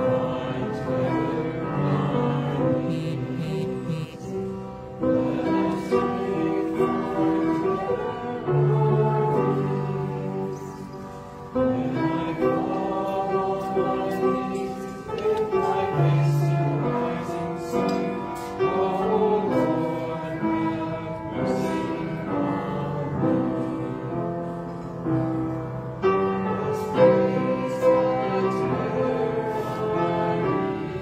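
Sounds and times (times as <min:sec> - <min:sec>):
voices singing a hymn: 0:00.0 - 0:31.0.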